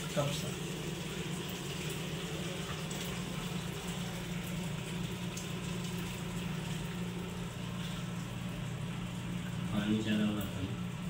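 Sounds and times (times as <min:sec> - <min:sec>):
broth pouring and splashing: 0:00.0 - 0:11.0
steady low hum: 0:00.0 - 0:11.0.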